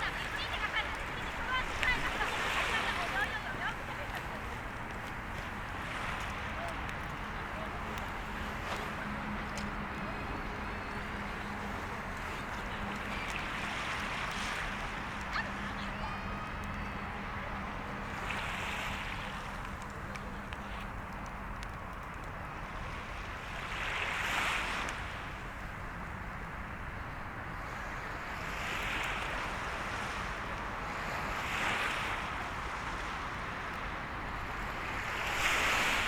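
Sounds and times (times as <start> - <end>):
sea waves breaking on shore: 0.0 - 36.0.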